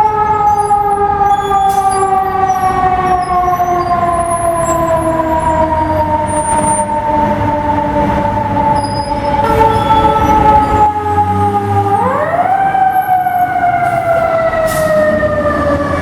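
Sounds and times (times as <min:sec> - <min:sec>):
fire truck siren falling tone: 0:00.0 - 0:16.0
low rumble of truck and traffic: 0:00.0 - 0:16.0.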